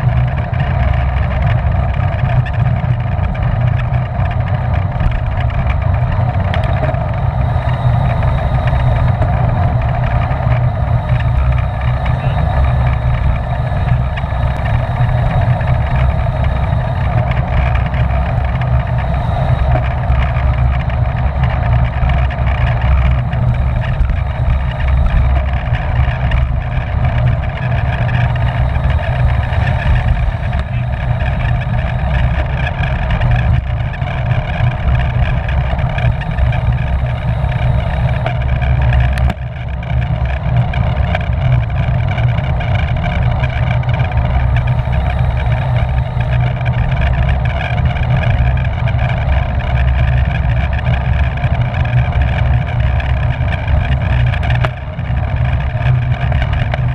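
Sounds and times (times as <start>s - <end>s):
bicycle tyre and drivetrain noise: 0.0s - 56.9s
wind buffeting microphone: 0.0s - 56.9s.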